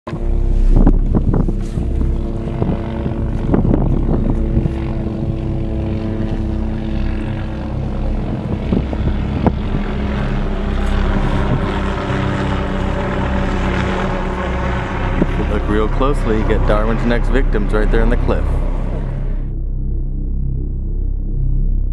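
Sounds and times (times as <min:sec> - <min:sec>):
light aircraft engine droning: 0:00.1 - 0:21.8.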